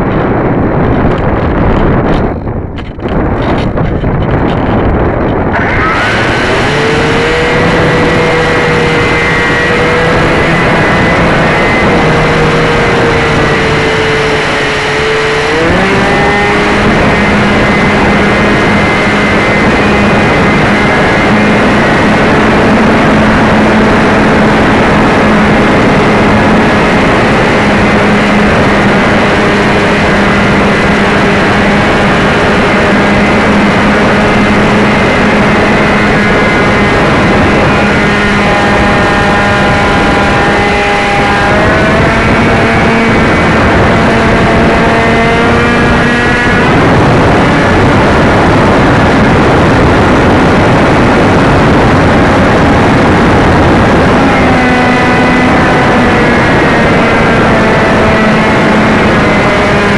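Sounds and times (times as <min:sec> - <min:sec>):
electric motor whining: 0:00.0 - 0:59.9
wind rush: 0:00.0 - 0:59.9.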